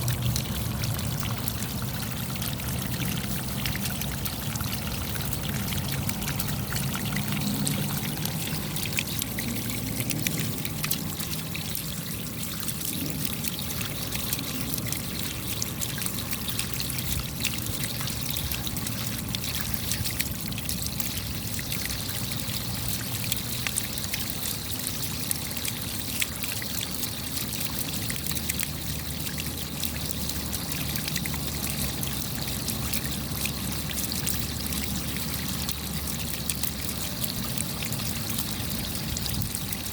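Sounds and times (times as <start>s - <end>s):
raindrops ticking: 0.0s - 39.9s
water falling and trickling: 0.0s - 39.9s.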